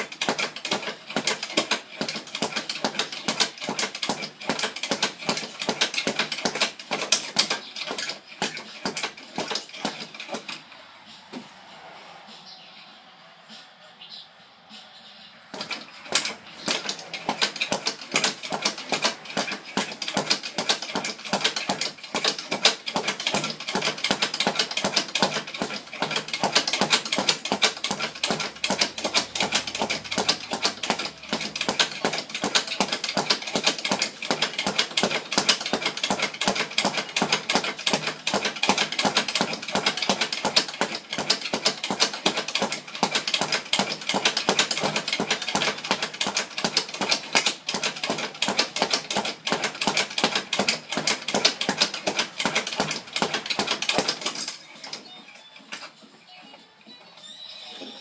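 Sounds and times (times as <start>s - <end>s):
rapid clattering strikes by hand: 0.0s - 10.7s, 15.5s - 55.1s.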